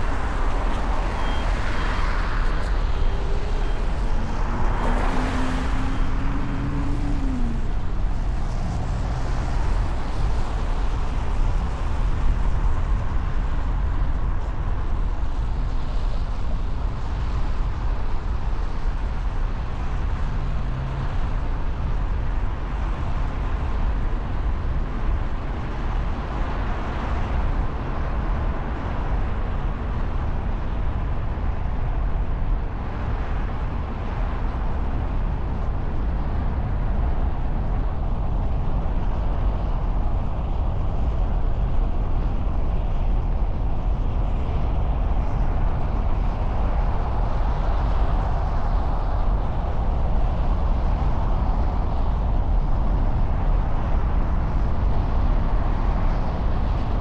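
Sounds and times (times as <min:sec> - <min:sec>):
city road traffic rumble: 0:00.0 - 0:57.0.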